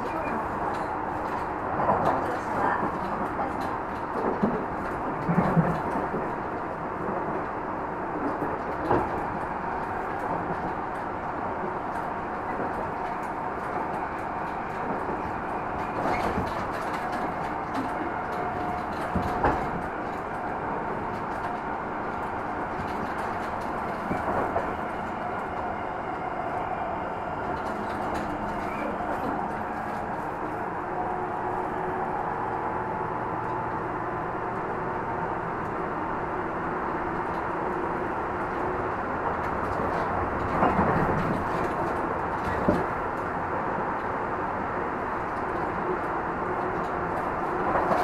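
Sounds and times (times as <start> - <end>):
train wheels rumbling on rail: 0.0 - 48.0
faint train whine: 6.1 - 48.0.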